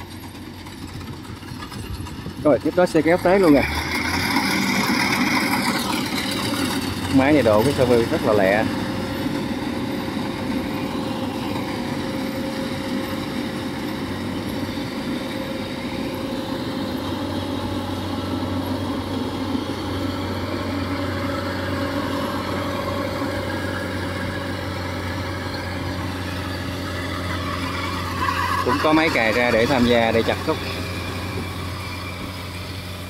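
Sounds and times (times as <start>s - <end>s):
combine harvester engine droning: 0.0s - 33.0s
second engine humming: 0.0s - 33.0s.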